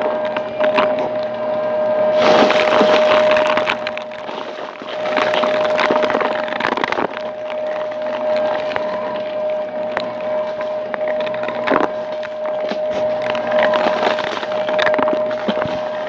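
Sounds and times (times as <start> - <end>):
debris crackling in vacuum: 0.0 - 16.0
stick vacuum whining: 0.0 - 16.0.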